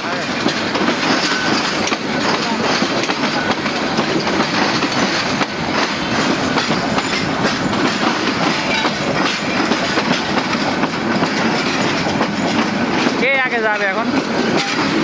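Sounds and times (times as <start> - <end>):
train rumble: 0.0 - 15.0
train wheels clattering over rail joints: 0.0 - 15.0.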